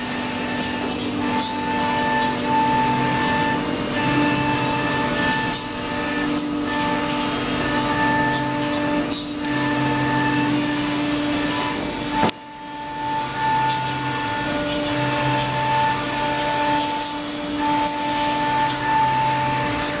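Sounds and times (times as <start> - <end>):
low machine hum: 0.0 - 20.0
milling machine spindle whine: 0.0 - 20.0.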